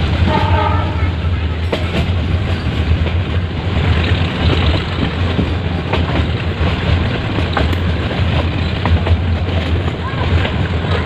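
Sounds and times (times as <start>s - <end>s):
train coaches rumbling: 0.0s - 11.0s
wheels clicking on track: 0.0s - 11.0s.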